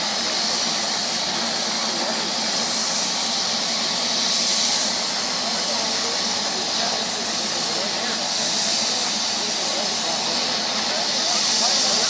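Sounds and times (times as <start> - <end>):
helicopter turbine engine running: 0.0 - 12.0.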